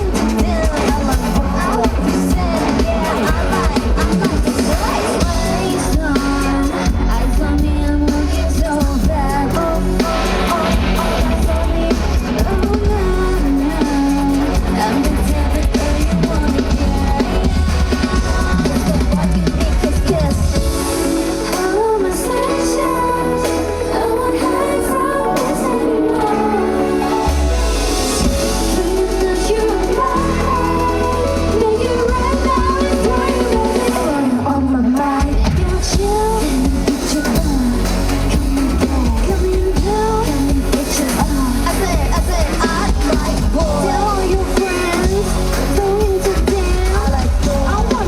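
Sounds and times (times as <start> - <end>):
person singing: 0.0 - 48.0
pop song over sound system: 0.0 - 48.0.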